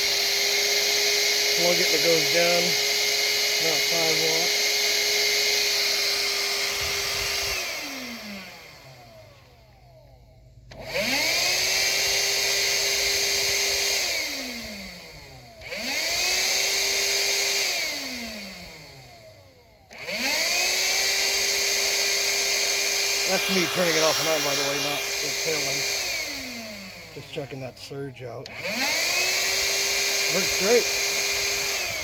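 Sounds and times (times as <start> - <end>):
vacuum motor whine: 0.0 - 32.0.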